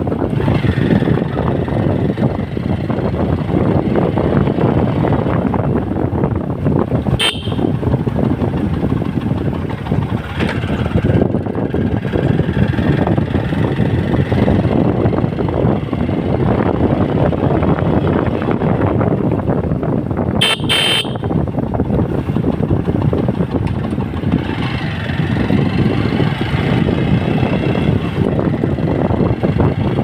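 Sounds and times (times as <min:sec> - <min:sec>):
road vehicle noise: 0:00.0 - 0:30.0.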